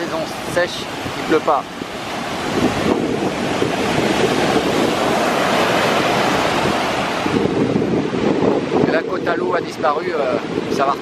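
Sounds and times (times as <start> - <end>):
rough sea surf washing ashore: 0.0 - 11.0
wind buffeting microphone: 0.0 - 11.0.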